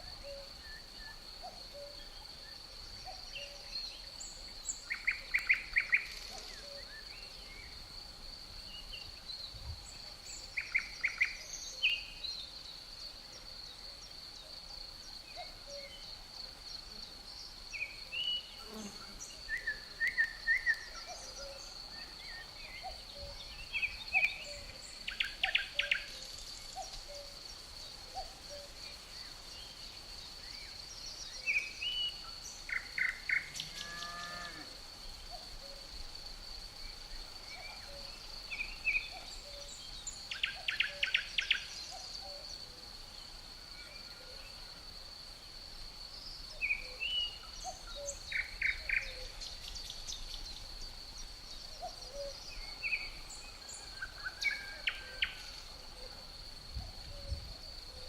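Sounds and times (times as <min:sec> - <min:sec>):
crickets trilling: 0:00.0 - 0:58.0
songbirds chirping: 0:00.0 - 0:58.0.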